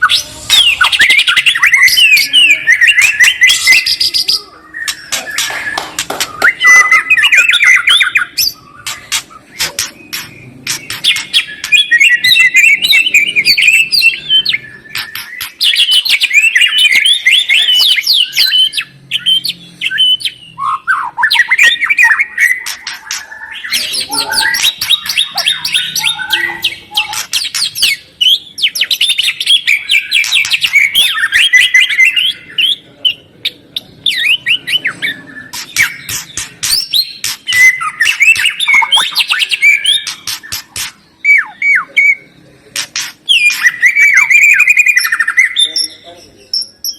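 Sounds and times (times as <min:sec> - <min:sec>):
birds chattering and whistling: 0:00.0 - 0:46.9.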